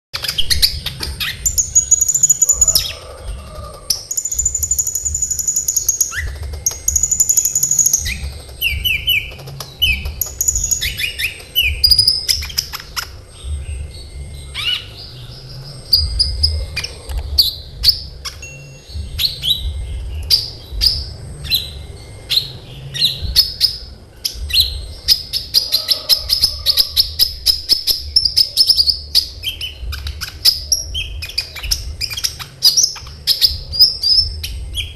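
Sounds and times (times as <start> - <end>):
sunbird singing trills: 0.2 - 34.9
low steady rumble: 0.4 - 34.9.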